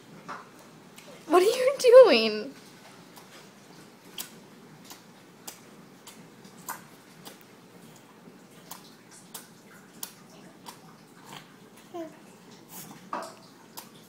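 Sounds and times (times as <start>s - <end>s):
faint room hiss: 0.0s - 14.0s
child chewing with wet smacks: 0.1s - 1.3s, 2.6s - 14.0s.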